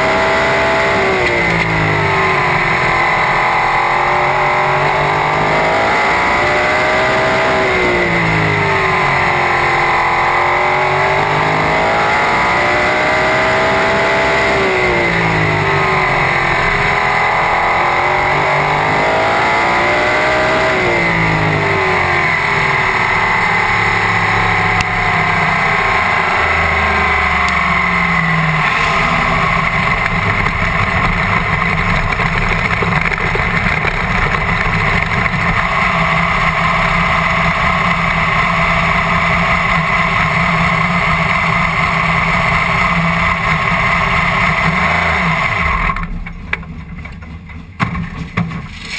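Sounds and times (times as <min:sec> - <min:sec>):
race car engine revving: 0:00.0 - 0:46.3.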